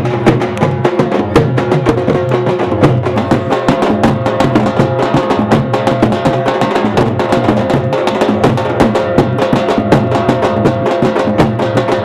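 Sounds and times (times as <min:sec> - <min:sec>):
drum beaten fast: 0:00.0 - 0:12.0.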